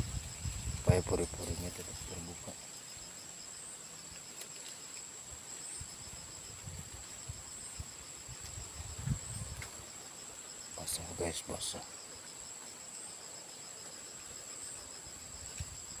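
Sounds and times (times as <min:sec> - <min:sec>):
fast pulsing insect trill: 0:00.0 - 0:16.0
insects trilling: 0:00.0 - 0:16.0.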